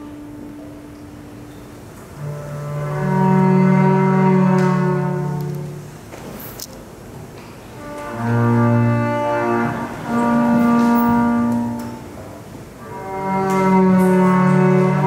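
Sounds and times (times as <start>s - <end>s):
bowed low string notes: 0.0s - 6.1s, 7.8s - 15.0s.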